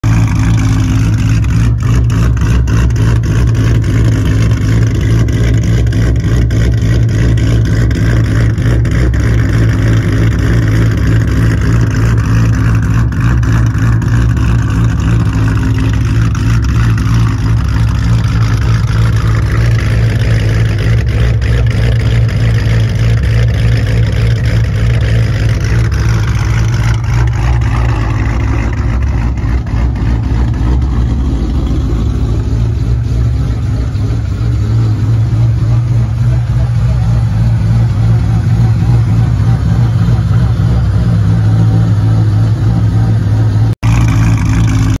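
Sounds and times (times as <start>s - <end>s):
car engine lumpy idle: 0.0s - 45.0s.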